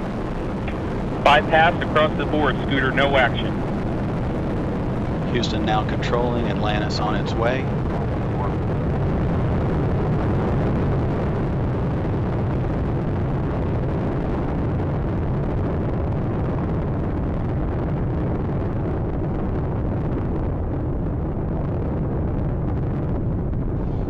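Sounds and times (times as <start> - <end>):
rocket exhaust rumble: 0.0 - 24.0.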